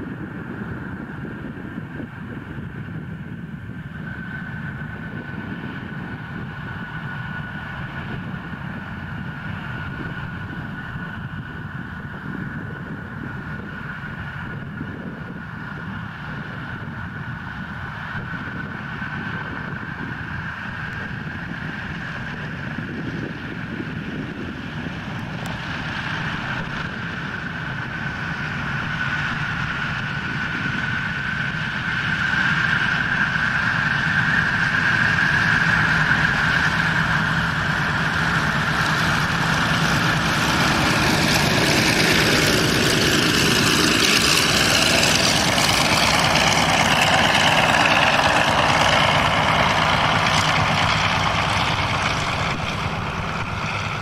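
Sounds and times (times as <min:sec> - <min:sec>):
propeller aircraft engines running: 0:00.0 - 0:54.0.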